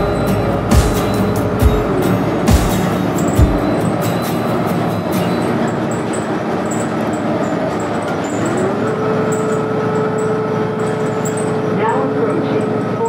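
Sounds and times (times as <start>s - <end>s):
bus engine and road rumble: 0.0s - 13.0s
rising whine: 0.0s - 13.0s.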